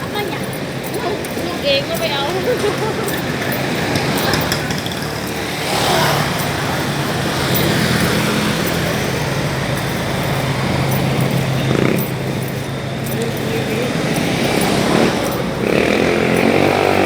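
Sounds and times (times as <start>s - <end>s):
vehicle engines running: 0.0s - 17.0s
vehicle passing: 0.0s - 17.0s.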